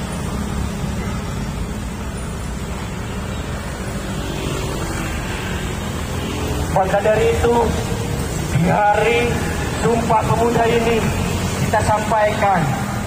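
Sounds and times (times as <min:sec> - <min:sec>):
motorcycle and vehicle engines: 0:00.0 - 0:13.0.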